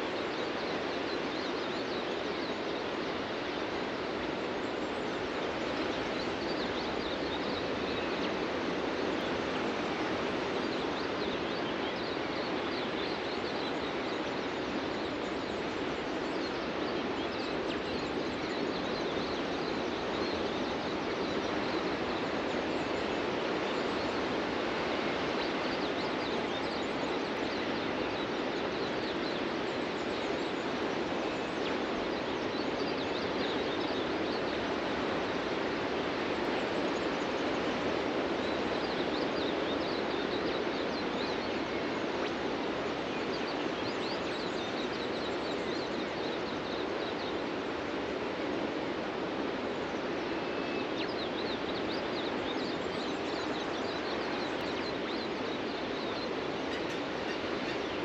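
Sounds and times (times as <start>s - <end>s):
ocean surf on a beach: 0.0s - 58.0s.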